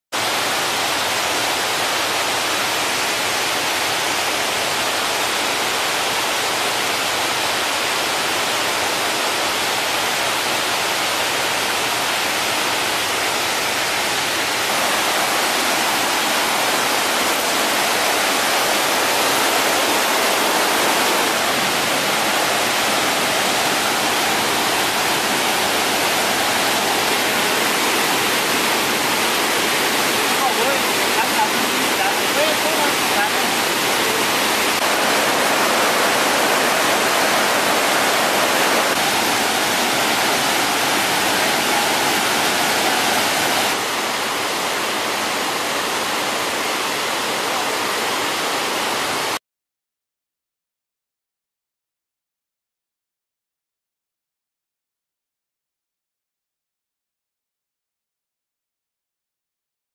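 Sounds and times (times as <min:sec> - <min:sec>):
water rushing over boulders: 0:00.2 - 0:49.4.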